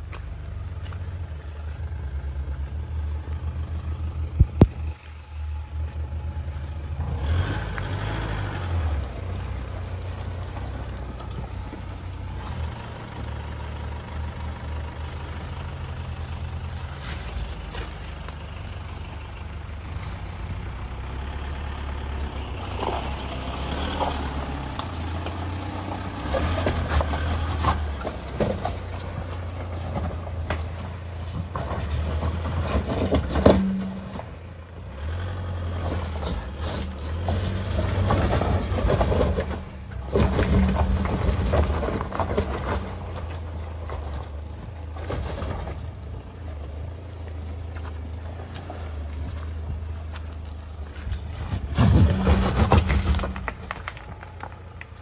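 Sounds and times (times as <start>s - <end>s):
off-road vehicle engine at low revs: 0.0s - 55.0s.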